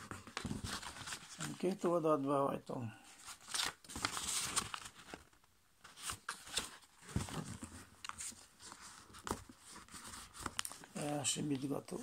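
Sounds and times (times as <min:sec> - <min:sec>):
paper rustling and crackling: 0:00.0 - 0:02.0, 0:03.1 - 0:12.0.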